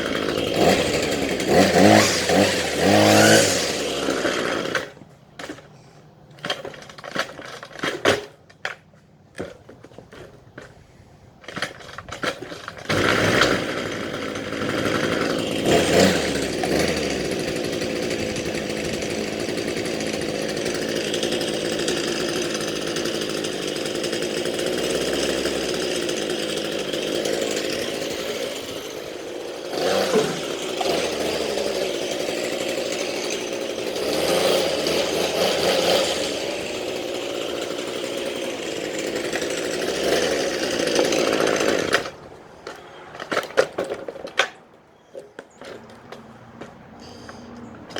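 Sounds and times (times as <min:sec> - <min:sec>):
small two-stroke engine sputtering: 0:00.0 - 0:47.9.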